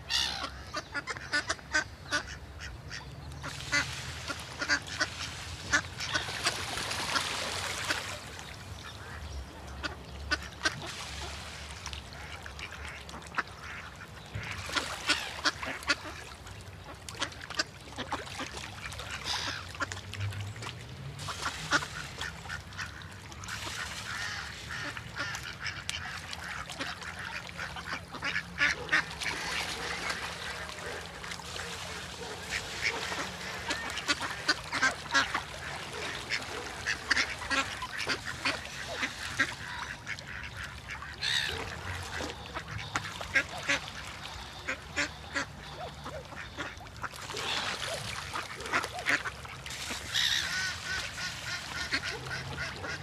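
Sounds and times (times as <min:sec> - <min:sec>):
ducks quacking: 0:00.0 - 0:20.3, 0:21.2 - 0:53.0.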